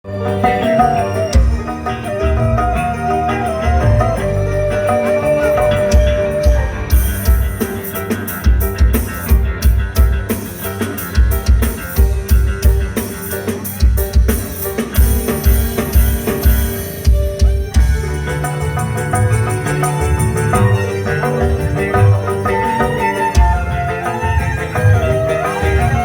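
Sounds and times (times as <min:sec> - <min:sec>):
band music through sound system: 0:00.0 - 0:26.0.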